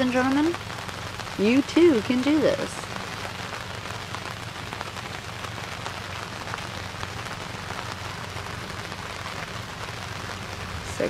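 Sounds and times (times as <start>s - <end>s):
low steady hum: 0.0s - 11.0s
rain pattering on water: 0.0s - 11.0s.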